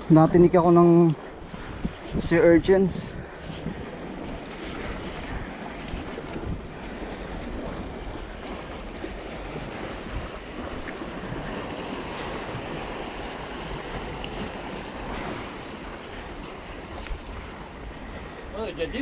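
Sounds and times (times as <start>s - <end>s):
wind buffeting microphone: 0.0s - 19.0s
waves washing against rocks: 1.6s - 19.0s.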